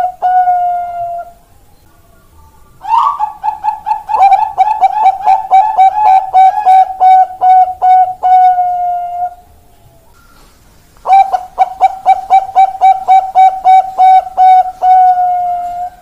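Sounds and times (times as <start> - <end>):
dove cooing: 0.0 - 1.4, 2.8 - 9.5, 11.0 - 16.0.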